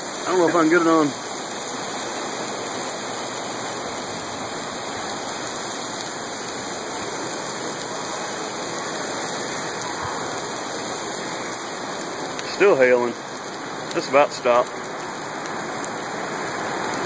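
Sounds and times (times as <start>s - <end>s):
heavy rain and hail on asphalt: 0.0s - 17.0s.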